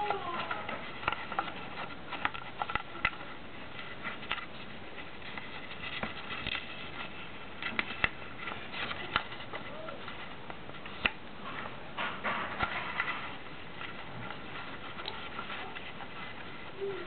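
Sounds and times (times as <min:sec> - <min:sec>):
paper rustling and crinkling: 0:00.0 - 0:17.0.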